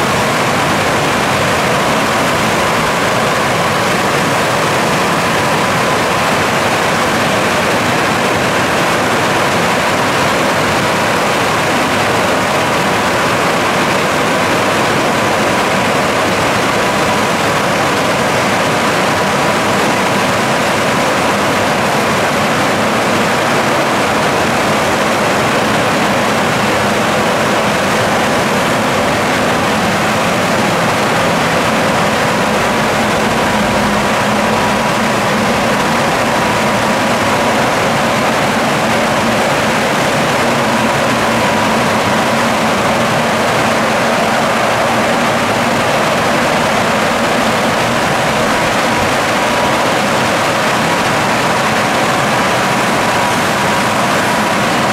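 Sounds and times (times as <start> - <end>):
car wash rushing noise: 0.0 - 54.9.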